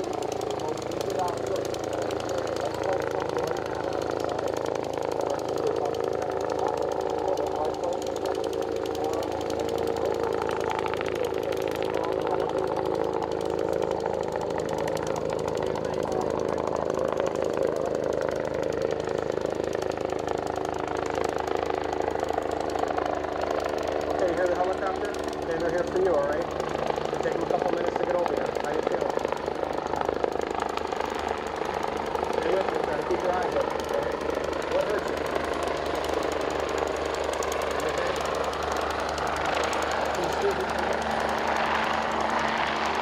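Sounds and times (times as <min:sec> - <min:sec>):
engine running steadily: 0:00.0 - 0:43.0.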